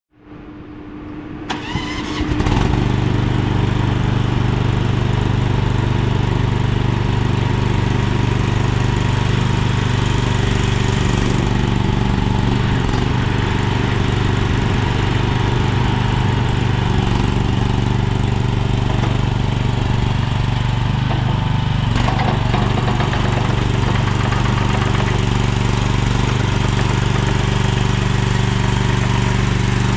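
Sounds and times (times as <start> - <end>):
small engine starting and running: 1.5 - 29.9.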